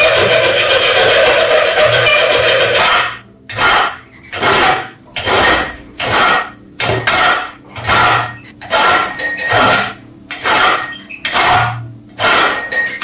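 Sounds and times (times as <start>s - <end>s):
rasping scrape on rusted metal: 0.0s - 13.0s.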